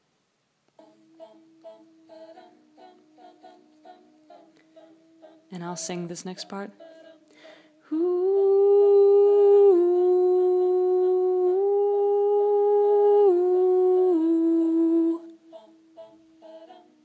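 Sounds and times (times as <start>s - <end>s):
woman singing long wordless notes: 0.7s - 17.0s.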